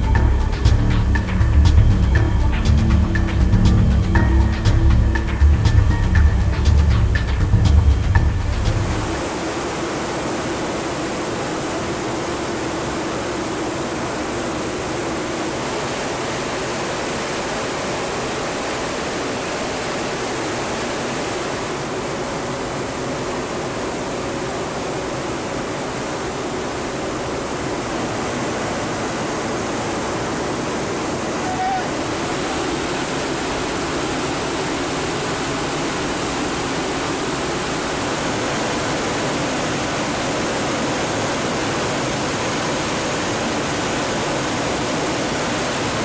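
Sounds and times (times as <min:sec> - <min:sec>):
aircraft engine and airflow rush: 0:00.0 - 0:46.0.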